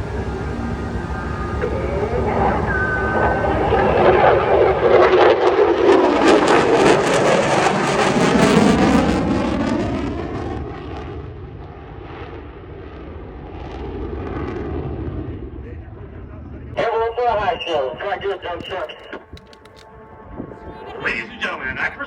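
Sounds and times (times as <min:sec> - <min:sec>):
airplane flying by low: 0:00.0 - 0:18.4, 0:19.2 - 0:22.0.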